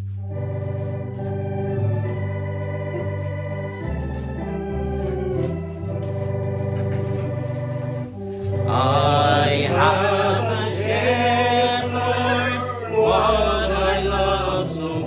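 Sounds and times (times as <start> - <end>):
organ playing hymn chords: 0.0 - 15.0.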